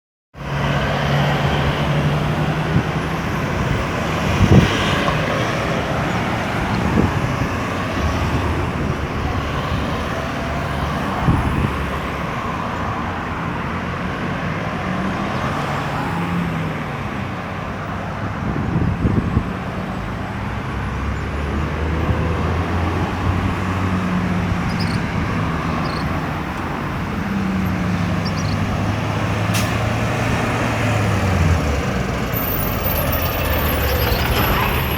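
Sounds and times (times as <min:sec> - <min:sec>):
vehicle engines passing: 0:00.4 - 0:34.9.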